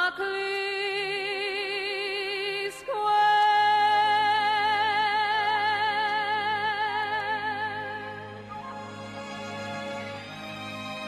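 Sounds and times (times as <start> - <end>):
female singer with orchestra: 0.0 - 9.2.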